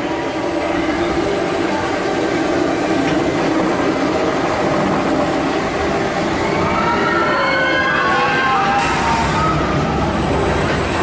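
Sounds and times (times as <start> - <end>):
roller coaster train rumbling: 0.0 - 11.0.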